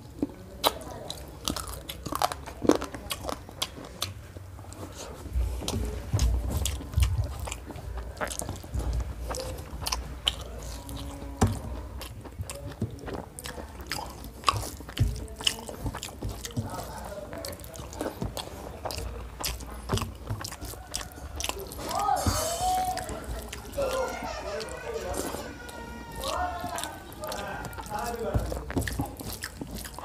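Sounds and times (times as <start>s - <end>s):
wet chewing and lip-smacking: 0.0s - 30.0s
soft low thumps: 4.4s - 30.0s.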